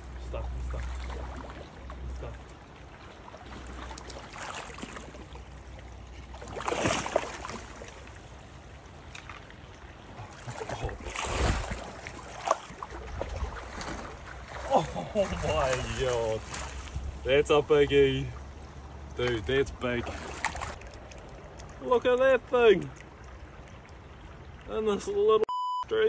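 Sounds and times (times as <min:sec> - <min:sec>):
stream trickling: 0:00.0 - 0:25.5
water splashing: 0:00.0 - 0:25.5.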